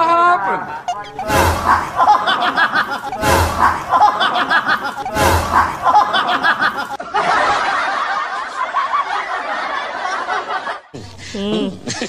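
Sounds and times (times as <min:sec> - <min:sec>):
people laughing: 0:00.6 - 0:12.0.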